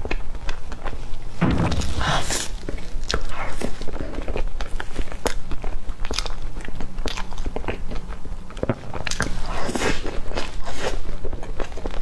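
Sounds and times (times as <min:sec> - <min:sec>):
close-miked chewing: 0:00.0 - 0:12.0.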